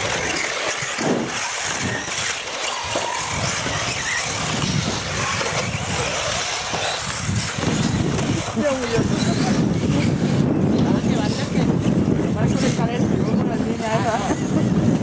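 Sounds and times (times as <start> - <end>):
model buggy motor: 0.0 - 15.0.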